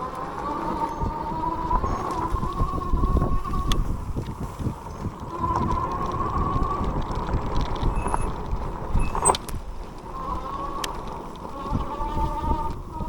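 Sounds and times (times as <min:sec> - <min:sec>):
electric motor whining: 0:00.0 - 0:13.0
tyres rumbling: 0:00.0 - 0:13.0
wind on microphone: 0:00.0 - 0:13.0.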